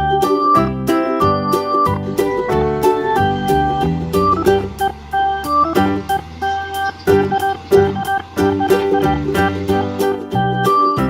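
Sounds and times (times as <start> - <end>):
upbeat music with plucked strings: 0.0 - 11.0.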